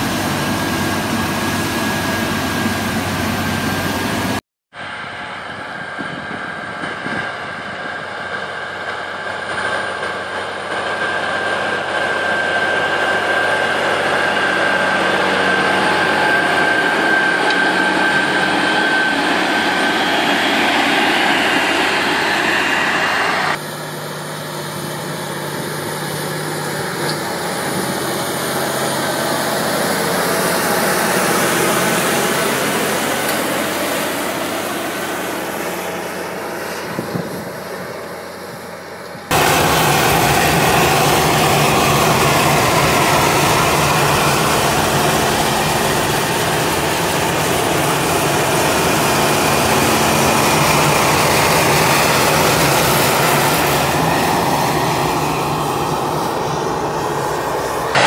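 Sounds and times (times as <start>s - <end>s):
steady high whine: 0.0s - 58.0s
tractor diesel engine under load: 0.0s - 58.0s.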